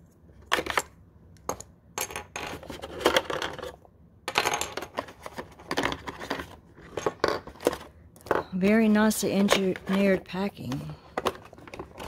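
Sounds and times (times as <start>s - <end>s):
plastic and batteries clicking and rattling: 0.5s - 12.0s.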